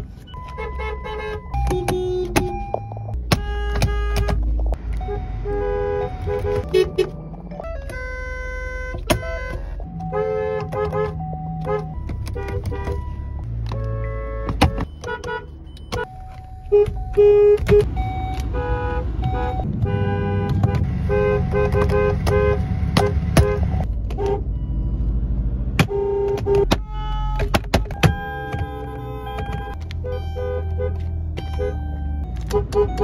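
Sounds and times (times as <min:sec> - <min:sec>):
car horns honking: 0:00.3 - 0:24.7, 0:25.8 - 0:33.0.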